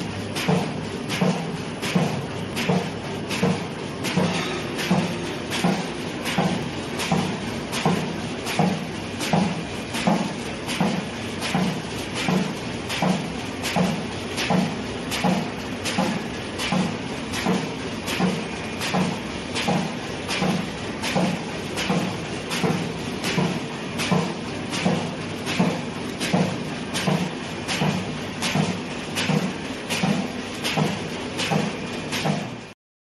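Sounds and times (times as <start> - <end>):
machine clack and thump: 0.0 - 32.7
machine clattering: 0.0 - 32.7.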